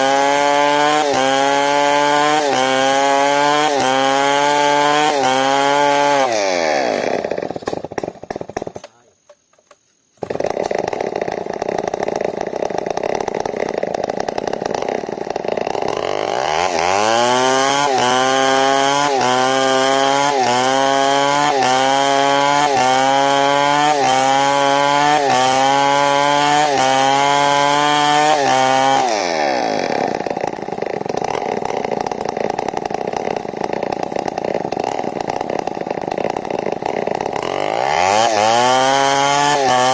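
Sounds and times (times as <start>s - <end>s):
chainsaw cutting timber: 0.0s - 9.4s, 10.1s - 39.9s.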